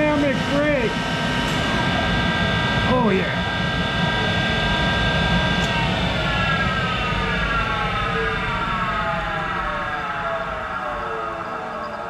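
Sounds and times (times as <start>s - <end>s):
lathe motor whine winding down: 0.0s - 12.0s
low hum: 0.0s - 12.0s.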